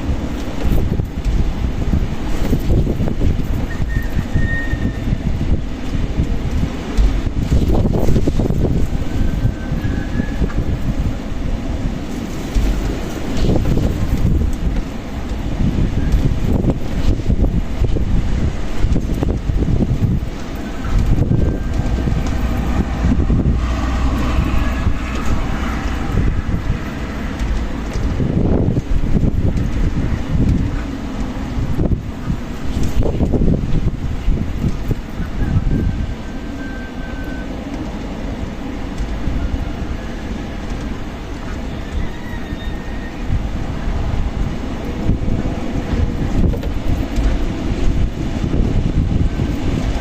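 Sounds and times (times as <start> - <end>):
strong wind gusts on microphone: 0.0 - 50.0
faint wind whistle: 1.9 - 5.7, 7.4 - 11.6, 13.3 - 18.2, 18.9 - 30.9, 31.5 - 50.0.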